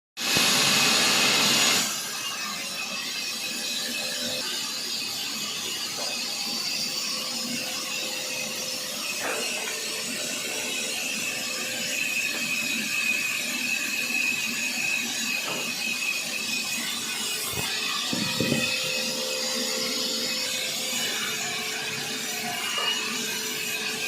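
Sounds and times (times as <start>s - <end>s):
saw cutting through wood: 0.2s - 24.0s.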